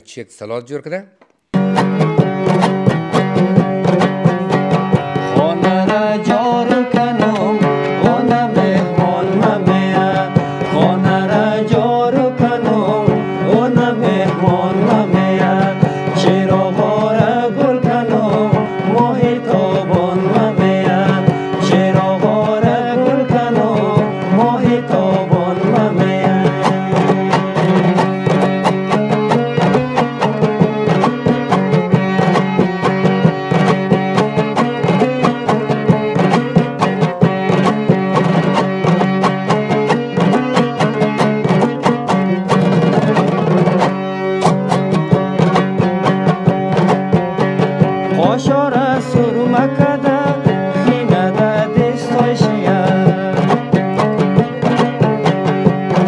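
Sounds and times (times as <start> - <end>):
rapid hand-drum beats: 1.5 - 56.0.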